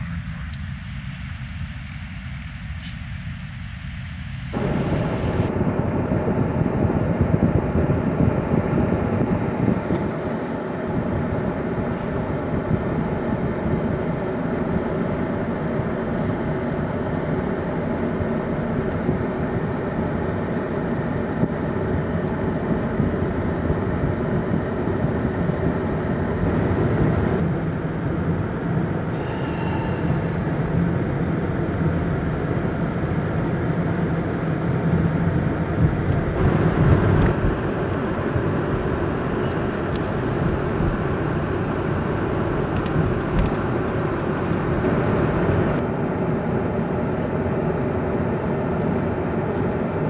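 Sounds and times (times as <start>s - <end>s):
vehicle engine and road rumble: 0.0s - 50.0s.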